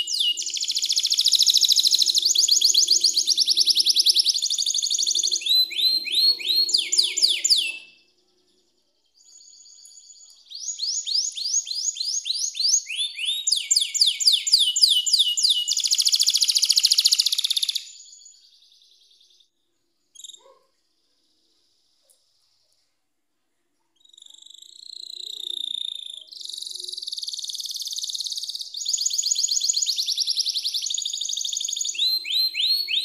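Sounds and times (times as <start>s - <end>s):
canary singing trills: 0.0s - 19.5s, 20.1s - 20.7s, 24.0s - 33.0s.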